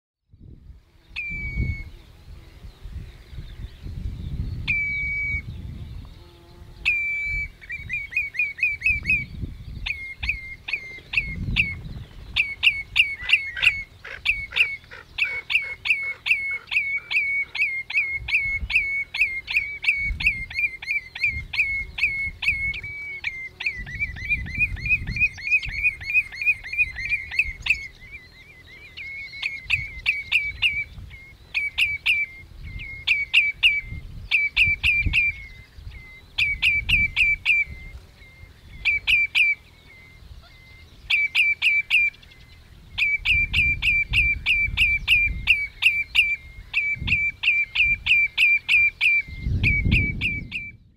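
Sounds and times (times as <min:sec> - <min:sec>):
redshank calling: 0:01.0 - 0:50.9.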